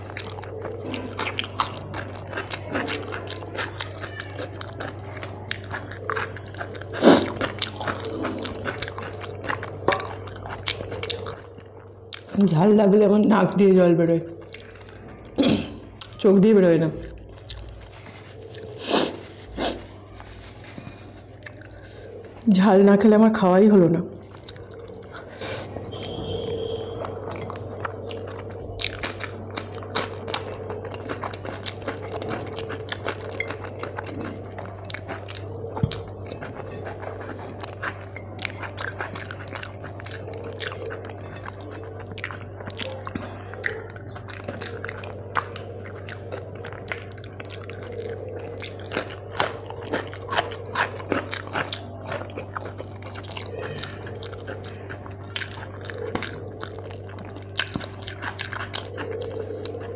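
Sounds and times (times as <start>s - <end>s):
chewing: 0.0s - 59.9s
low hum: 0.0s - 59.9s.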